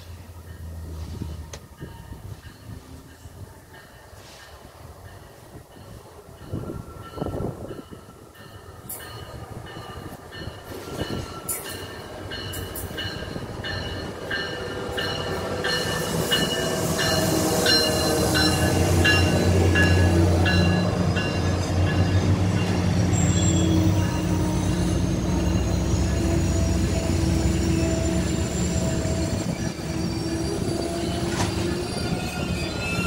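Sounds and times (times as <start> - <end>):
train wheels rolling: 0.0 - 33.0
locomotive bell ringing: 0.1 - 33.0.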